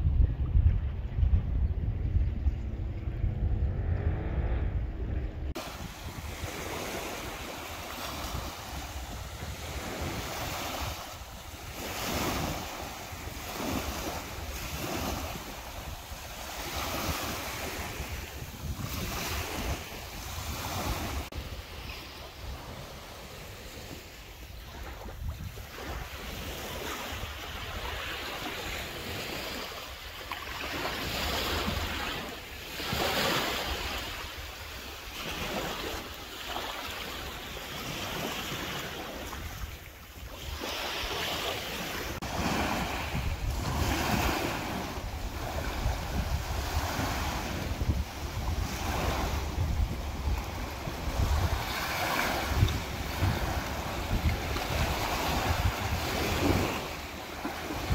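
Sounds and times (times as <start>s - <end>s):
small sea waves breaking: 5.5s - 57.9s.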